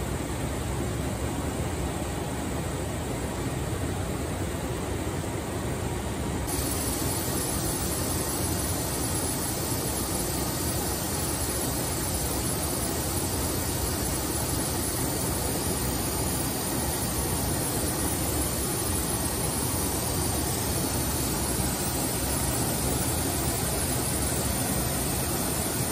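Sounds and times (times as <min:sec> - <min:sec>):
machine shop hum and hiss: 0:00.0 - 0:25.9.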